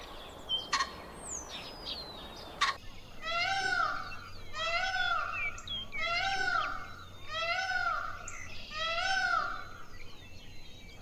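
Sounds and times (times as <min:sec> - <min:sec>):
peacock calling: 0:00.0 - 0:09.9.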